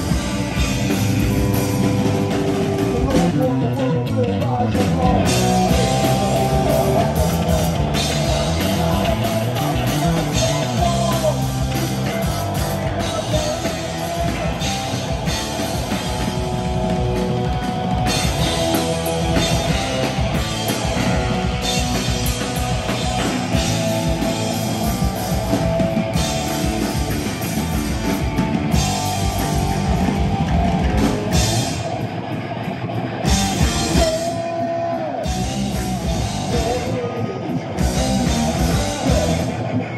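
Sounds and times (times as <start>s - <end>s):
thrash metal band playing live: 0.0s - 39.9s.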